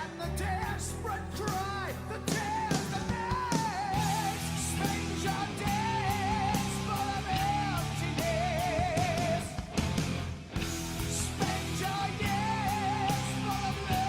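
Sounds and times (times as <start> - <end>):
rock music with vibrato vocals: 0.0 - 14.0.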